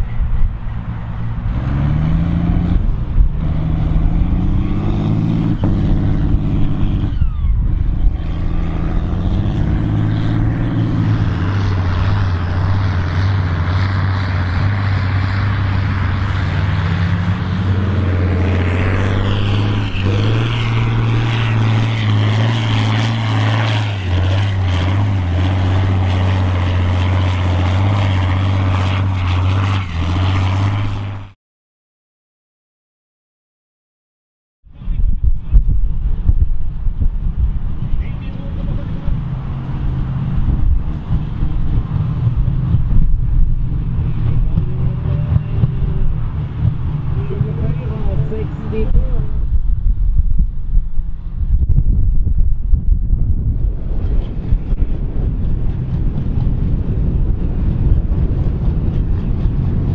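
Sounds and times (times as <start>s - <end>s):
tractor diesel engines under load: 0.0s - 31.3s, 34.9s - 49.6s, 53.5s - 59.9s.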